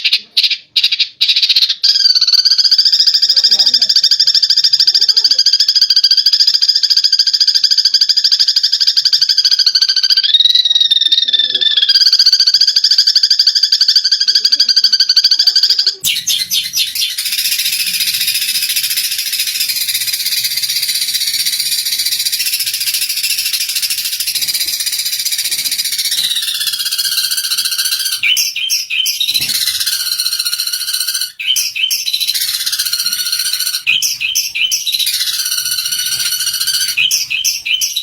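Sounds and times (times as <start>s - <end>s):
sparrows chattering: 0.0s - 38.0s.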